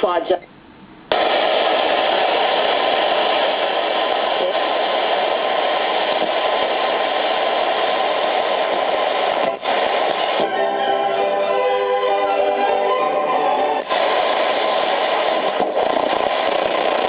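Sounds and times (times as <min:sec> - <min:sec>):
music from radio station: 0:01.1 - 0:17.0
radio static: 0:01.1 - 0:17.0.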